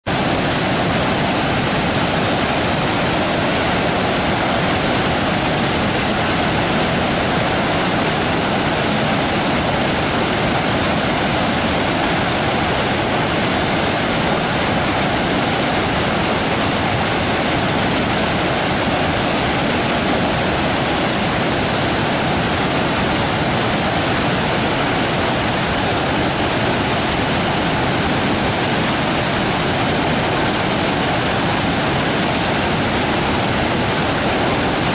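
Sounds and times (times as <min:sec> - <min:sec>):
waterfall roaring: 0:00.1 - 0:34.9.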